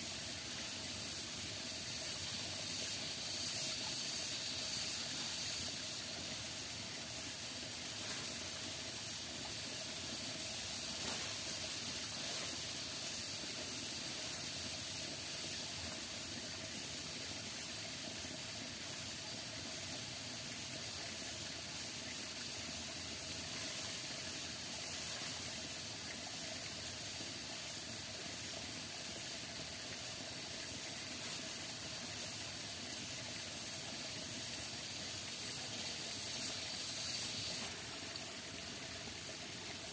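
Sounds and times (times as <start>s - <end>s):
rainforest hiss: 0.0s - 39.9s.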